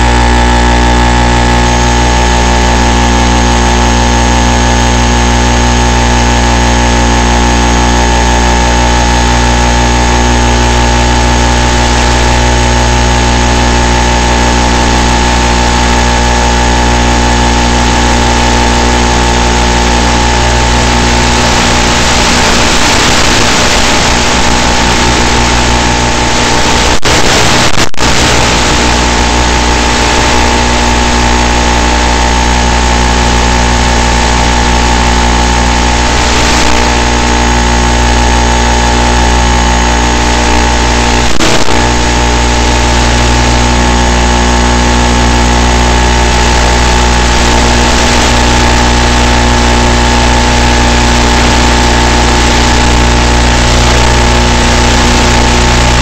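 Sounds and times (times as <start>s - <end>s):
loud steady hum: 0.0s - 56.0s.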